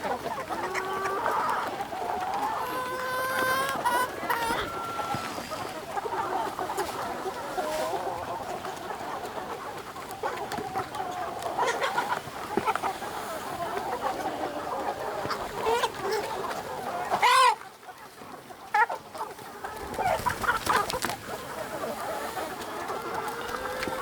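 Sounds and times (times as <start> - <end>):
chickens clucking: 0.0 - 24.0
drawn-out chicken calls: 0.0 - 24.0.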